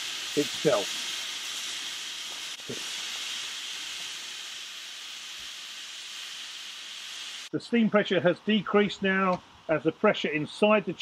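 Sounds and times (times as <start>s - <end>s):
steam hissing from valve: 0.0s - 11.0s.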